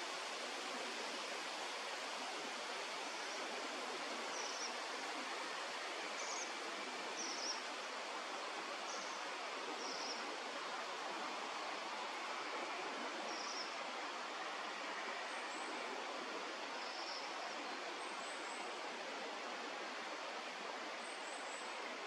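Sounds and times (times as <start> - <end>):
steady rushing outdoor noise: 0.0 - 22.0.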